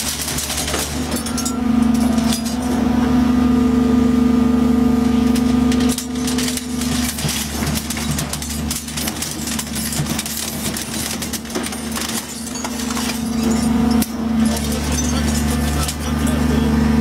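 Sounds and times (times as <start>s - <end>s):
metal bars cracking and shearing: 0.0s - 3.0s, 5.0s - 16.7s
hydraulic power unit hum: 0.0s - 17.0s.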